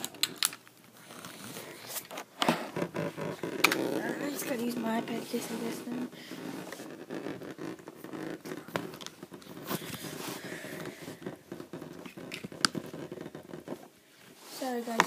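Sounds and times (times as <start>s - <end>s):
tablet handling rustles and scrapes: 1.0s - 15.0s.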